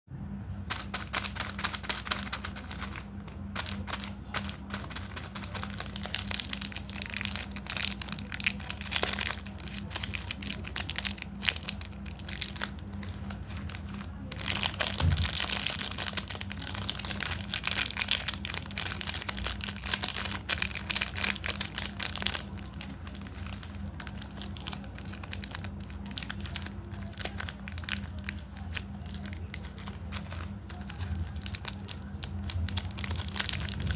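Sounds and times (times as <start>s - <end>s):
candy wrappers crinkling: 0.7s - 33.9s.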